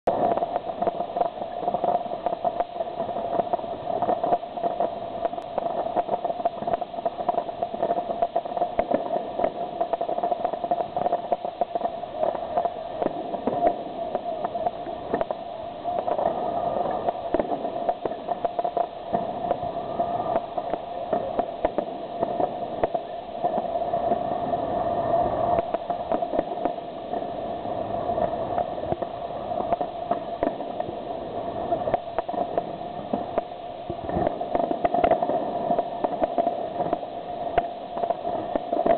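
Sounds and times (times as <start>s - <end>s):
fireworks bangs and crackles: 0.1s - 38.9s.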